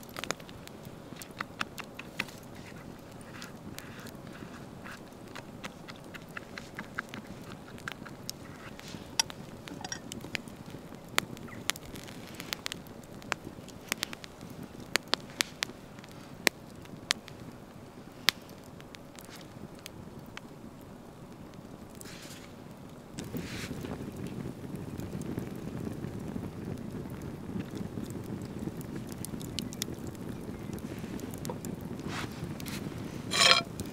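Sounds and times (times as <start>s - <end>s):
campfire crackling and popping: 0.0s - 33.9s
low rush of background noise: 0.0s - 33.9s.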